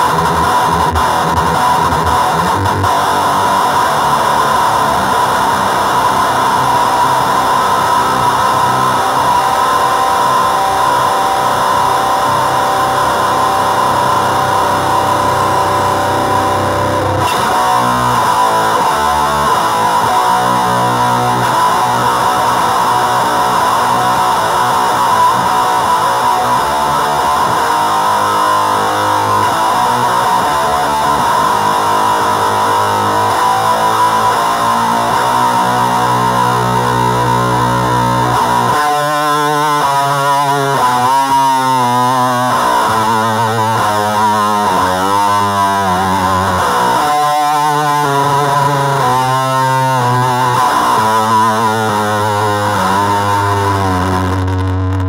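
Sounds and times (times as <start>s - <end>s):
distorted electric guitar: 0.0s - 55.0s.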